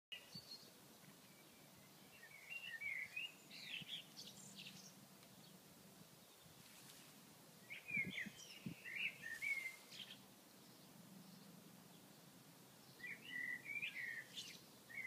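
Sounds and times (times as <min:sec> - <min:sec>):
songbird chirping: 0:00.1 - 0:15.0.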